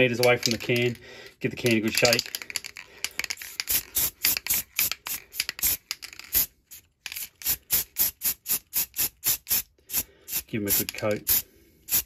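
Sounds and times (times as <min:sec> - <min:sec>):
spray can ball rattling: 0:00.2 - 0:01.0, 0:01.6 - 0:12.0.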